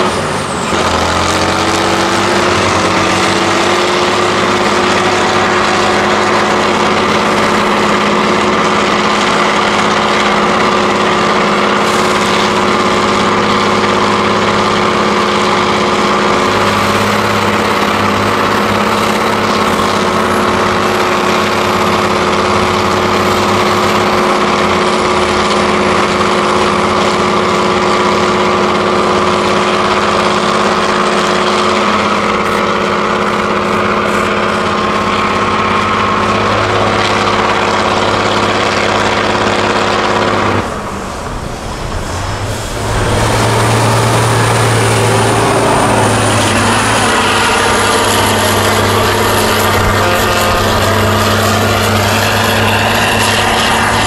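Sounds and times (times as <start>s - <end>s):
diesel truck engines under load: 0.0s - 54.0s.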